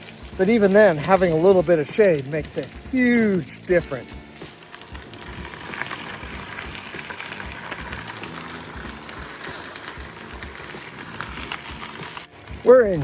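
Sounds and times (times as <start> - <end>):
bicycle tyres crunching on gravel: 0.0 - 13.0.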